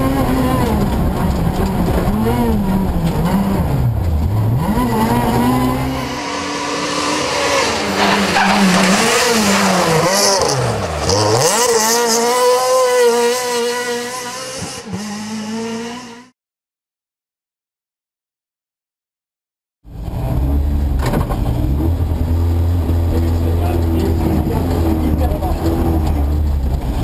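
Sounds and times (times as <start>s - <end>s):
rally car engine revving: 0.0s - 16.3s, 19.9s - 27.0s.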